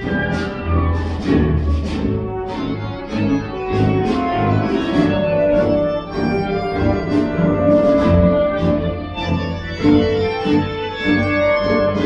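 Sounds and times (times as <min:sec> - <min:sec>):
orchestral ballet music: 0:00.0 - 0:12.0.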